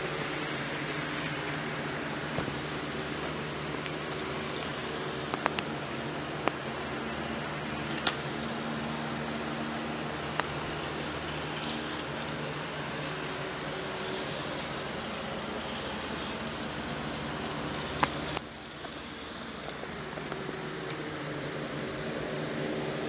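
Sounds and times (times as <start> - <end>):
model trains whirring: 0.0 - 23.0.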